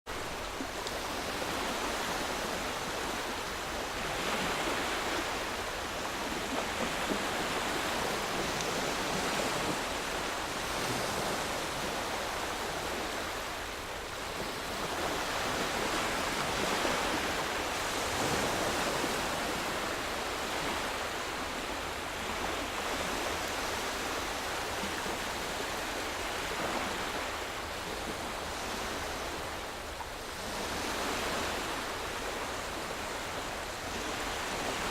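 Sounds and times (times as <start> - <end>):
waves washing onto sandy shore: 0.1 - 34.9.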